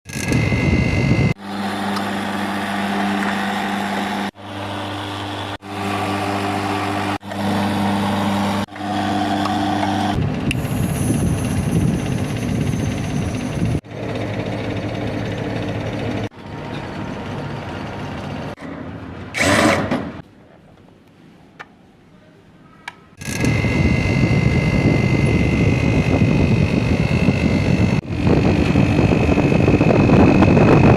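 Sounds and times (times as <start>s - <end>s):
machinery humming: 0.1s - 19.6s, 23.2s - 30.9s.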